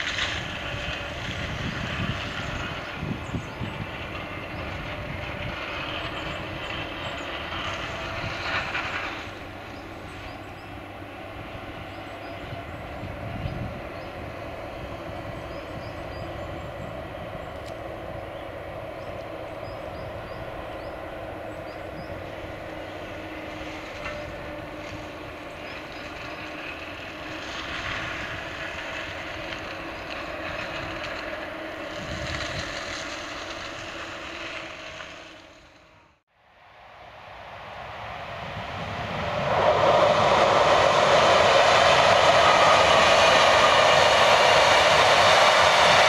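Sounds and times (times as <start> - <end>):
excavator diesel engine running: 0.0 - 36.2, 37.4 - 46.0.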